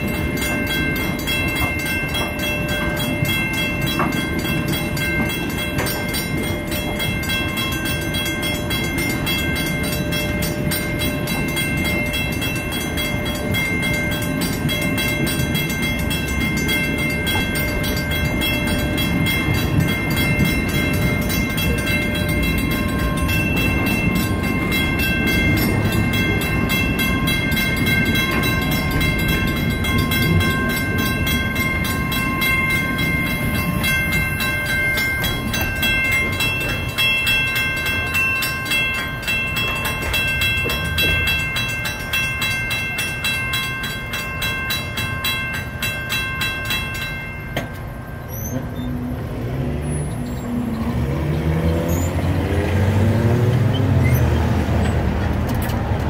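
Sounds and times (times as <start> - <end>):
railroad cars rolling past: 0.0 - 56.0.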